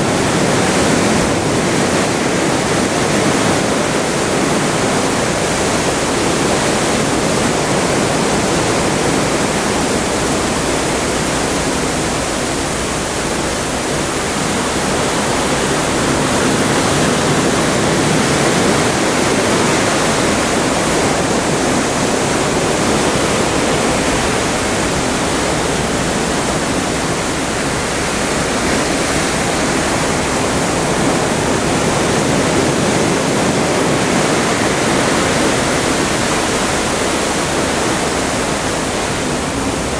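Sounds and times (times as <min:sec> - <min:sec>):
water rushing past a ship: 0:00.0 - 0:39.9.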